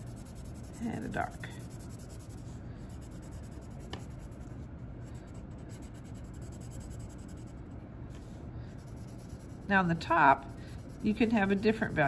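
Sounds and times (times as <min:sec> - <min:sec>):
pencil scratching on paper: 0:00.0 - 0:04.4, 0:05.1 - 0:07.5, 0:08.8 - 0:12.0.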